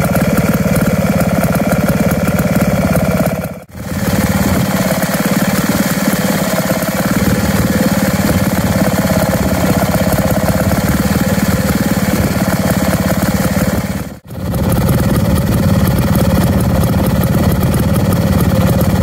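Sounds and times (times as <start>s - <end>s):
stationary engine running: 0.0s - 19.0s.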